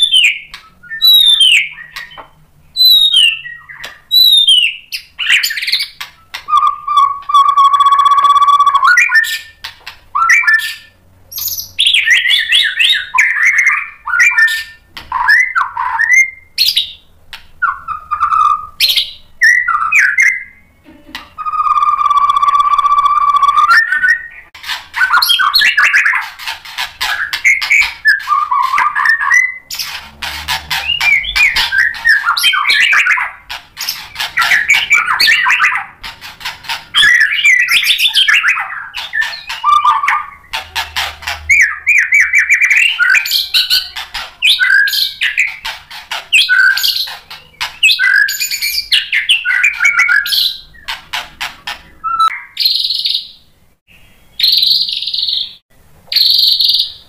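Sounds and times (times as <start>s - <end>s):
songbird whistling and trilling: 0.0s - 20.7s, 21.4s - 45.7s, 46.3s - 51.0s, 52.0s - 57.0s.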